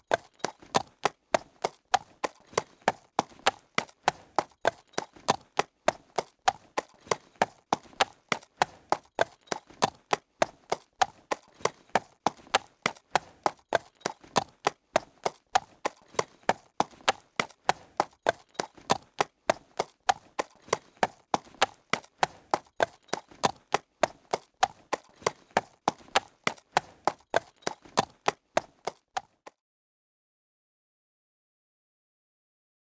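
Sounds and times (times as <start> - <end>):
horse hooves trotting: 0.0 - 29.6.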